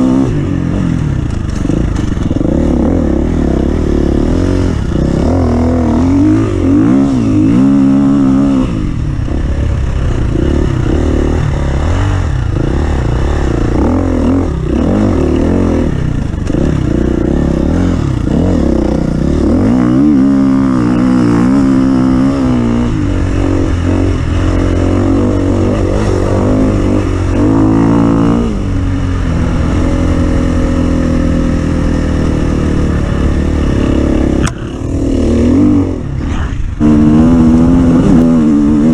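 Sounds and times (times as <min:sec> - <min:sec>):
offroad vehicle engine revving: 0:00.0 - 0:38.9.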